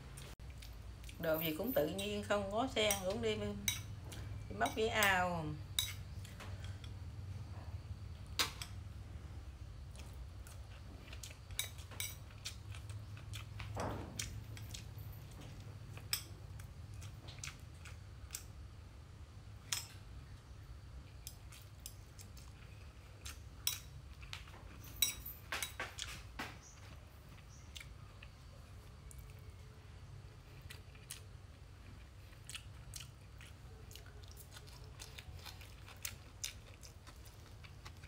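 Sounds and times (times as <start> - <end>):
soft chewing: 0.0 - 38.0.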